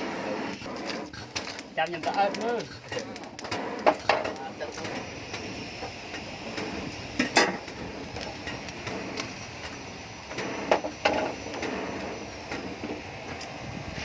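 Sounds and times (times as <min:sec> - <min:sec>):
faint steady high whine: 0:00.0 - 0:14.0.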